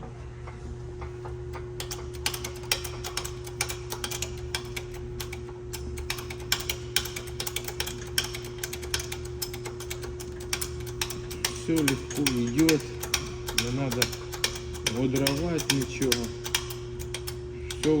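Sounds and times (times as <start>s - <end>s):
steady low hum: 0.0s - 18.0s
metallic clicks of a press: 1.0s - 18.0s.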